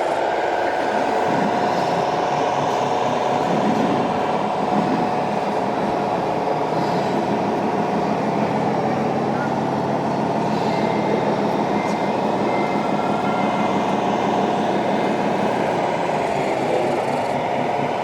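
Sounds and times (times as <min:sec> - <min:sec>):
model trucks humming and whining: 0:00.0 - 0:18.0.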